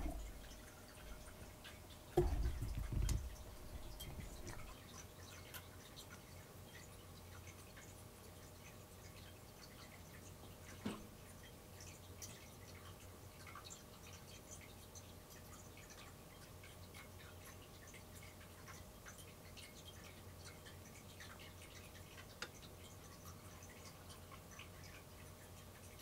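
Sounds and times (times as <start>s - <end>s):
faint ticks and clicks: 0.0s - 26.0s
low steady hum: 0.0s - 26.0s.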